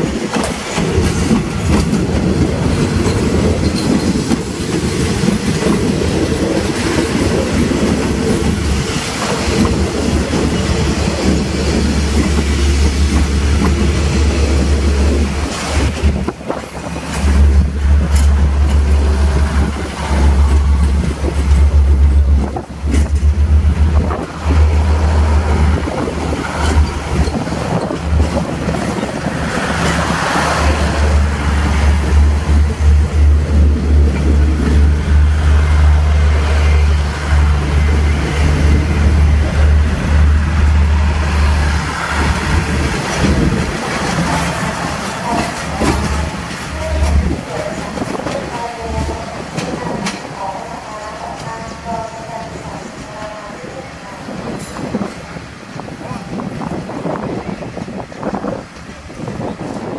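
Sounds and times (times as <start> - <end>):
train wheels on rails: 0.0 - 59.9
wind buffeting microphone: 0.0 - 59.9.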